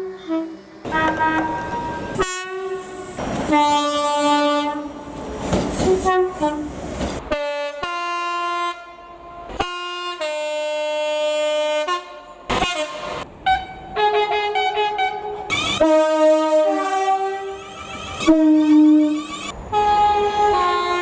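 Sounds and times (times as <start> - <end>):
train horns playing a tune: 0.0 - 21.0.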